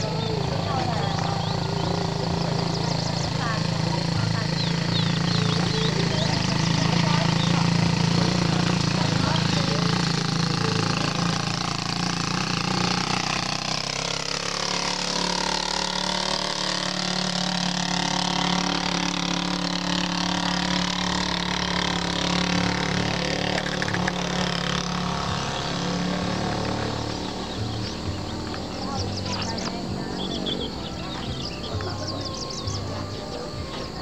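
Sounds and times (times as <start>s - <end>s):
small motorcycle engine running: 0.0s - 34.0s.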